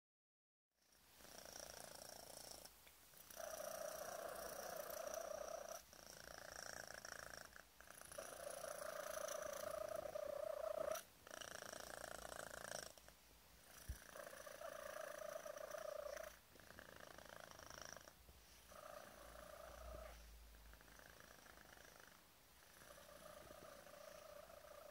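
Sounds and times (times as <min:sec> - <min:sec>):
kitten purring: 0:00.8 - 0:24.9.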